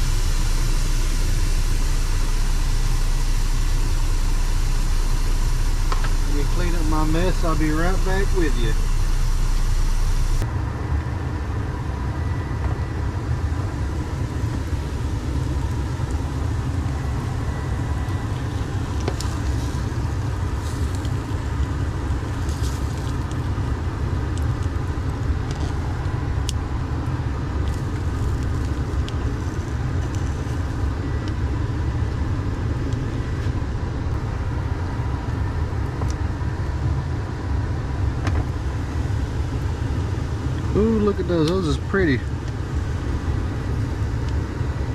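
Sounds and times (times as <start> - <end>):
diesel engine idling: 0.0 - 44.9
faint steady hum: 0.0 - 44.9.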